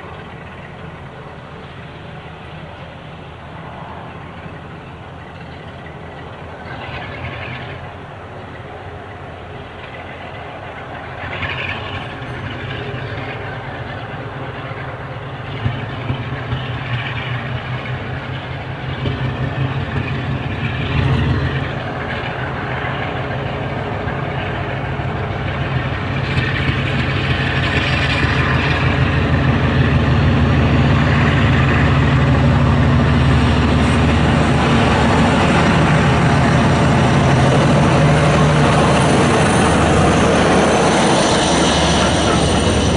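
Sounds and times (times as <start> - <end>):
diesel locomotive engine running: 0.0 - 42.9.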